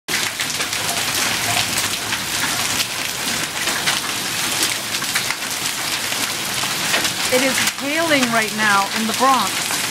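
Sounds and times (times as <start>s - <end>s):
hail ticking: 0.1s - 9.9s
rain on concrete: 0.1s - 9.9s.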